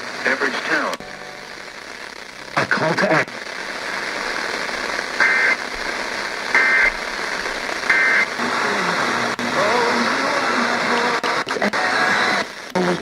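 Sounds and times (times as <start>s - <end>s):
radio static: 0.0s - 13.0s.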